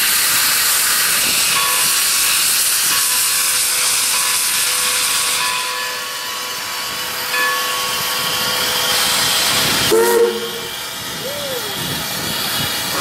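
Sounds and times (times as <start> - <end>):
steam locomotive hissing: 0.0 - 13.0.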